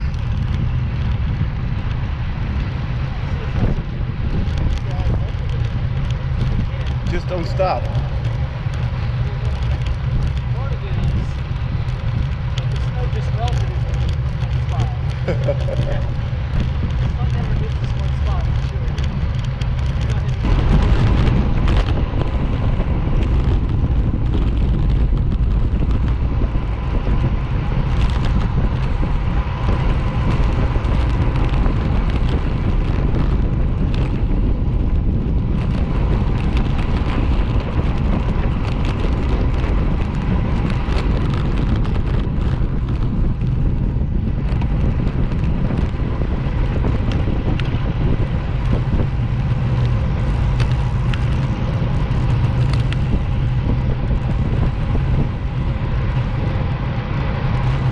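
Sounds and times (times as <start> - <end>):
motorcycle engine running: 0.0 - 57.9
wind on microphone: 0.0 - 57.9.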